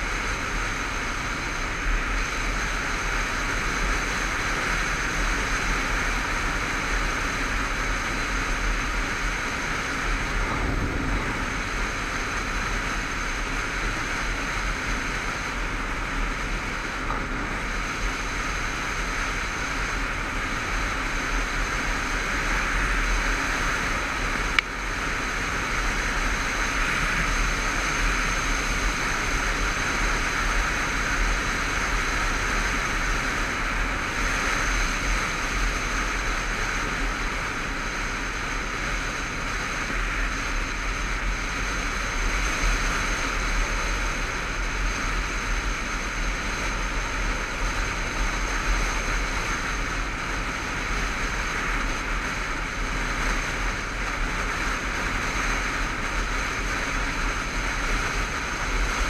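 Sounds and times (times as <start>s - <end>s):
motorcycle engine running: 0.0s - 59.0s
wind rush over camera: 7.2s - 59.0s.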